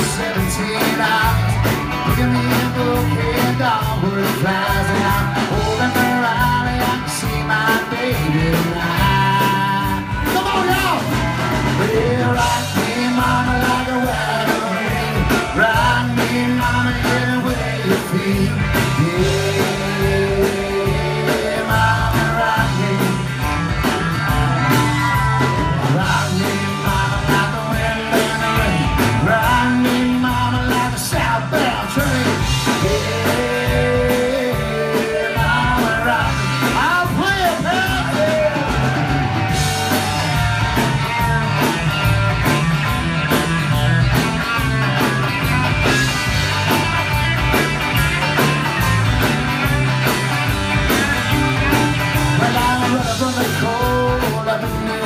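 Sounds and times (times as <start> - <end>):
person singing: 0.0 - 42.1, 52.2 - 55.0
drums steady beat: 0.0 - 55.0
electric guitars: 0.0 - 55.0.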